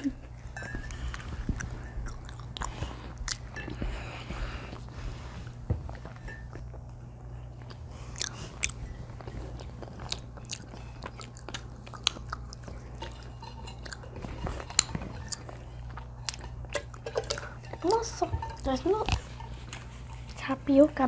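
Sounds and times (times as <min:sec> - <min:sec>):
people chewing food: 0:00.0 - 0:20.7
steady low hum: 0:00.0 - 0:21.0.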